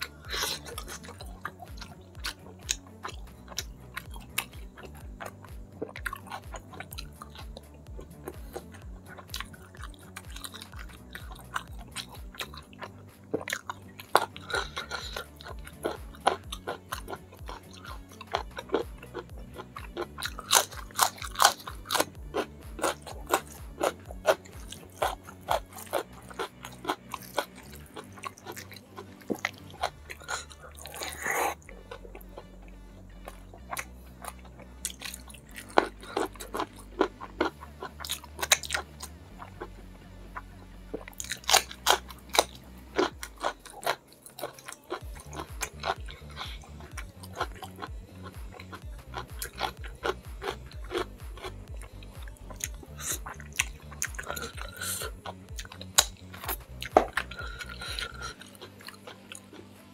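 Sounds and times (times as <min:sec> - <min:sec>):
wet chewing and lip smacks: 0:00.0 - 0:59.8
background music bass: 0:00.0 - 0:59.9.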